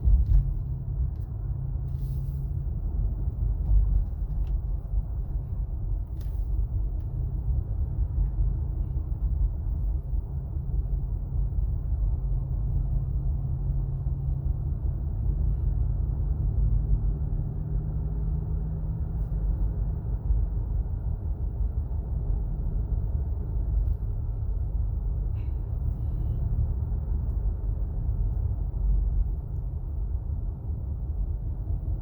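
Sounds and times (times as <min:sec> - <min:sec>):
car road rumble: 0:00.0 - 0:32.0
low hum: 0:00.0 - 0:32.0.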